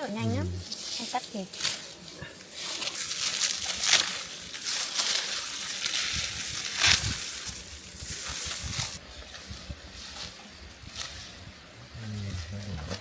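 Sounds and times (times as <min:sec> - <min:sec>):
straw rustling and crunching: 0:00.0 - 0:13.0.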